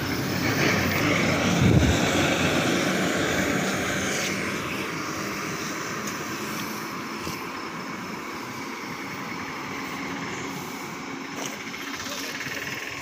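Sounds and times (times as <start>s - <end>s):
bus engine running: 0.0s - 13.0s
street noise hiss: 0.0s - 13.0s.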